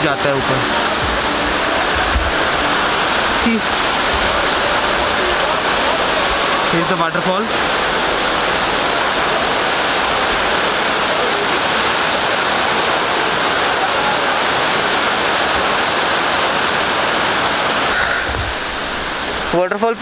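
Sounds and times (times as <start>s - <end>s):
waterfall rushing over boulders: 0.0s - 20.0s.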